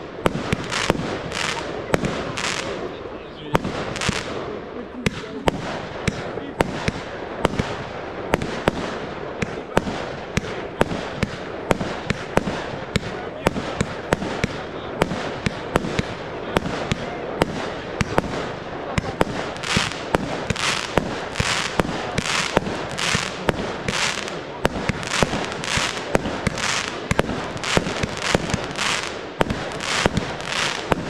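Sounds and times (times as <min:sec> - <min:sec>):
fireworks bursting: 0:00.0 - 0:31.0
hissing crackle of fireworks: 0:00.0 - 0:31.0.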